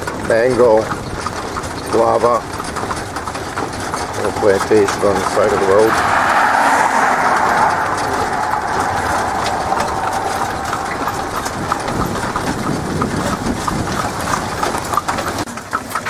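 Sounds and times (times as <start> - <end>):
horse hooves clip-clopping on pavement: 0.0 - 16.0
rushing road noise: 0.0 - 16.0.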